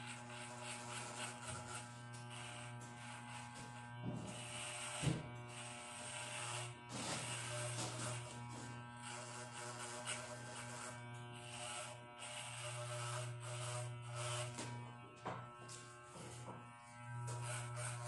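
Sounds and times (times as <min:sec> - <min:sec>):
electric hair clipper buzzing: 0:00.0 - 0:18.0.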